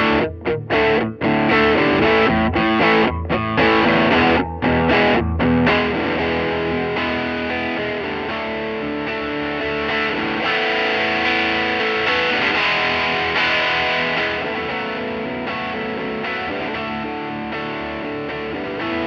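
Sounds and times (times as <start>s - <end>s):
overdriven electric guitar chords: 0.0s - 19.0s.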